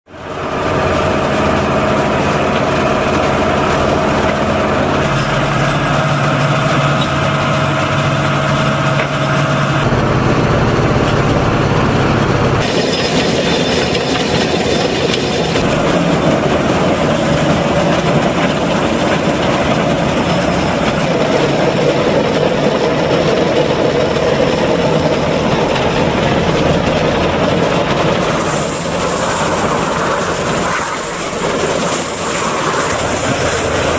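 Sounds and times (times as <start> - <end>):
tractor engine: 0.1 - 33.9
baler mechanical clatter: 0.5 - 33.9.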